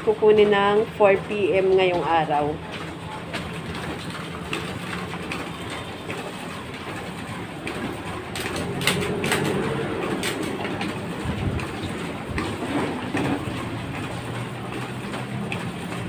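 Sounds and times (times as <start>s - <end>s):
photocopier rattle and hum: 0.0s - 16.0s.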